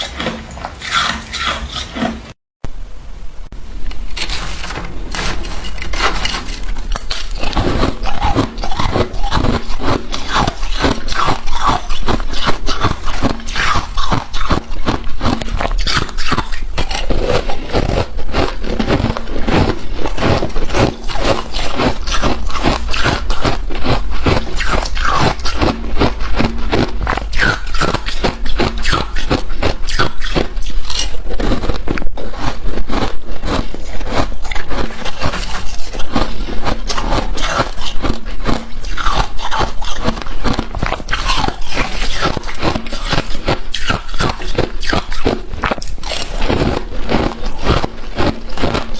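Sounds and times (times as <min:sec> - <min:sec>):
frost scraping and crunching: 0:00.0 - 0:02.4, 0:03.8 - 0:48.9.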